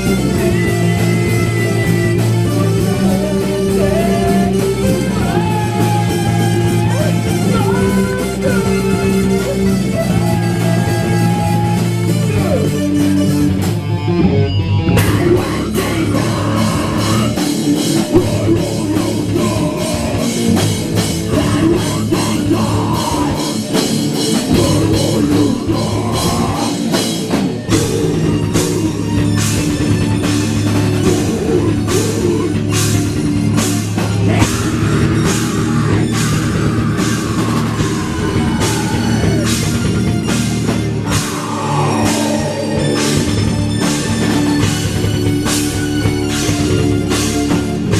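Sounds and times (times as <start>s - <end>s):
person singing: 0.0s - 12.9s, 15.0s - 29.7s, 31.0s - 33.0s, 34.0s - 39.9s, 41.0s - 44.7s
pounding drum kit: 0.0s - 14.3s, 14.9s - 47.9s
distorted electric guitars and bass: 0.0s - 47.9s.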